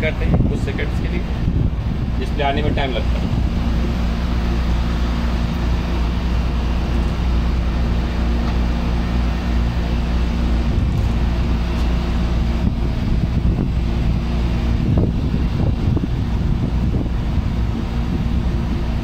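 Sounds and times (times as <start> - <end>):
hvac machinery hum: 0.0 - 19.0
rushing air noise: 0.0 - 19.0.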